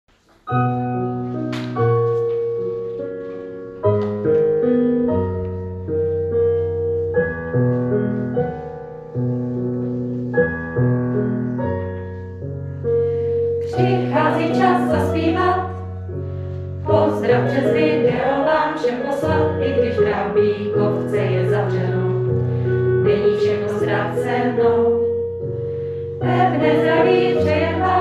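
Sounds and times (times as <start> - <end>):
piano chords ringing: 0.1 - 28.0.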